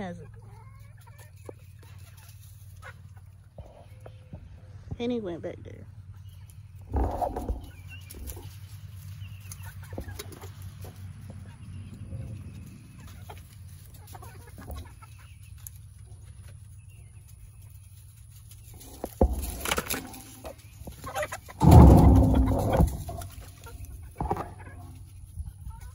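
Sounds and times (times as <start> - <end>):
hens clucking softly: 0.0 - 5.0, 6.0 - 25.9
rustle: 0.8 - 3.5, 6.3 - 11.6, 12.4 - 25.9.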